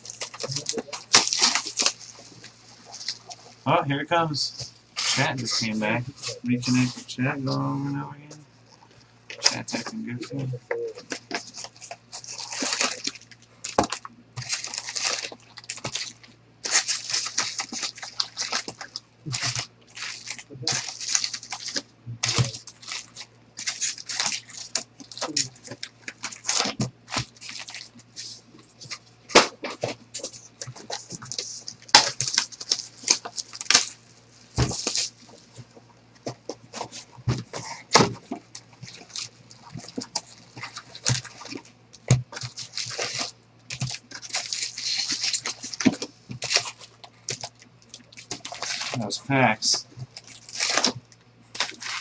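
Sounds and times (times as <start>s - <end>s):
foil packs crinkling: 0.0s - 3.7s, 4.5s - 7.8s, 9.3s - 10.2s, 11.0s - 52.0s.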